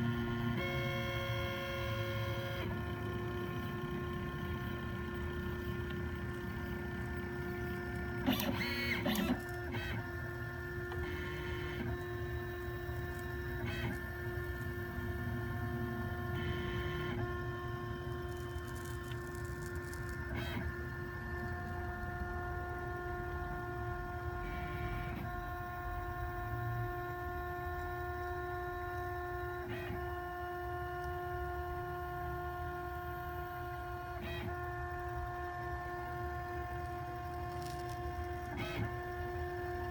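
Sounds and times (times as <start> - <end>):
stepper motors whining: 0.0 - 39.9.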